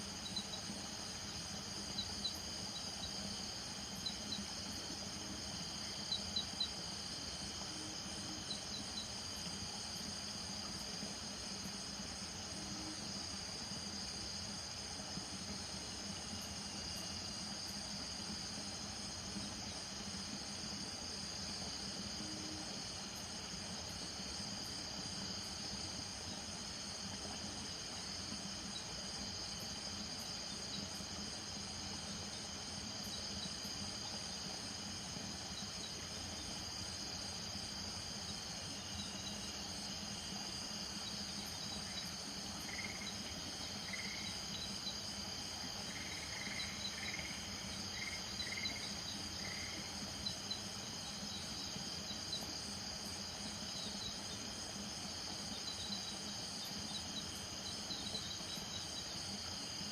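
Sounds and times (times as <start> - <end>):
crickets and insects trilling: 0.0 - 59.9.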